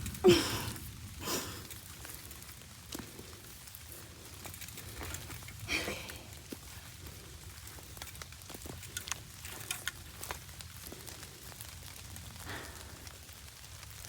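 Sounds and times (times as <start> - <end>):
raindrops ticking: 0.0 - 14.0.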